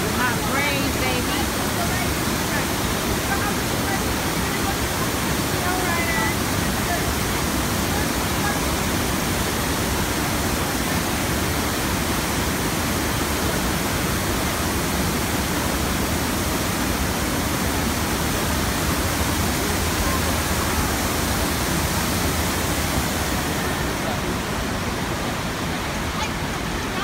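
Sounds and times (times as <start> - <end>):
rushing water: 0.0 - 27.0.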